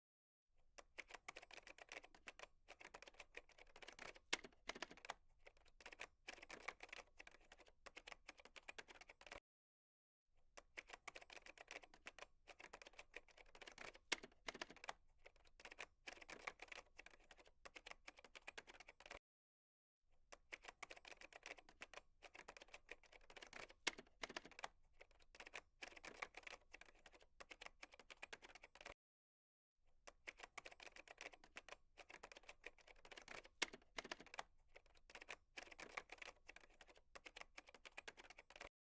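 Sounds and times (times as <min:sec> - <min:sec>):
fast typing on a keyboard: 0:00.8 - 0:09.4, 0:10.6 - 0:19.2, 0:20.3 - 0:29.0, 0:30.1 - 0:38.7.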